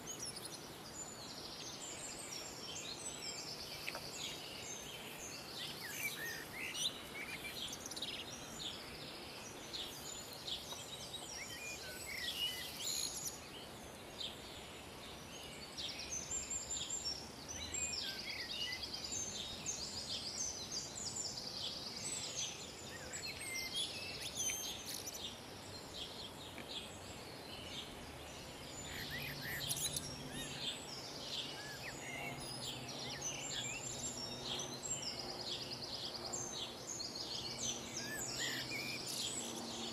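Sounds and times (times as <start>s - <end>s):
faint outdoor hiss: 0.0s - 39.9s
small birds chirping and trilling: 0.0s - 39.9s.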